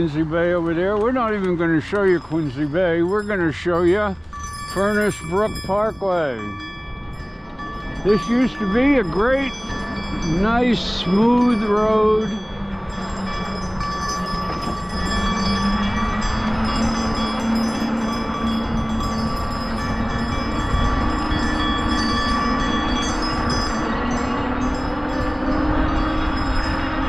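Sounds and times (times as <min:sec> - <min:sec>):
tyres rumbling on rough pavement: 0:00.0 - 0:27.0
motor humming: 0:04.2 - 0:27.0.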